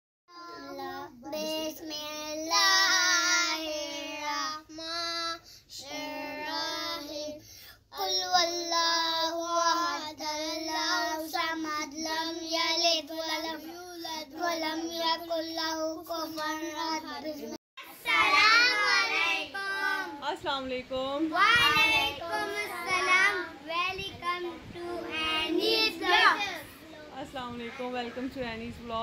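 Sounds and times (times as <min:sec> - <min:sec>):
child singing: 0:00.3 - 0:20.2, 0:21.3 - 0:27.1.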